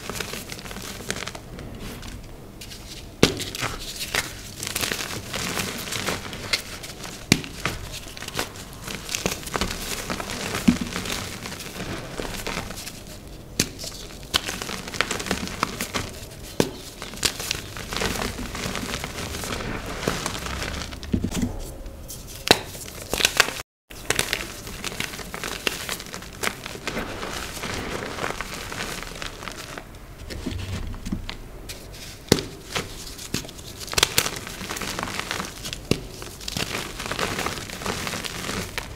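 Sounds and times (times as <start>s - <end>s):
chalk block crunching and crumbling: 0.0s - 38.9s.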